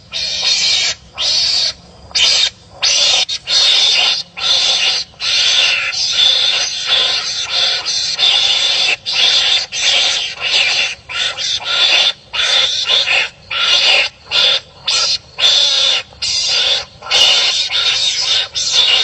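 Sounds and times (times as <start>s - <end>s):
animals barking harshly: 0.1s - 19.0s.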